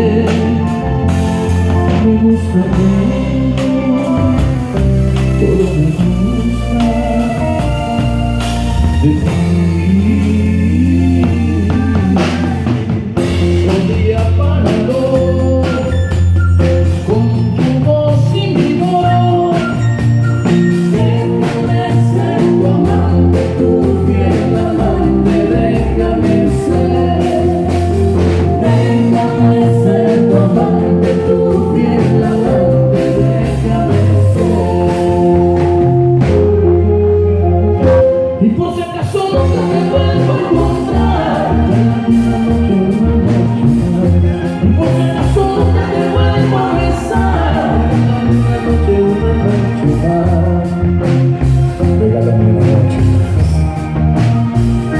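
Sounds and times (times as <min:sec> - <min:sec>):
bass: 0:00.0 - 0:54.9
drum kit: 0:00.0 - 0:54.9
person singing: 0:00.0 - 0:54.9.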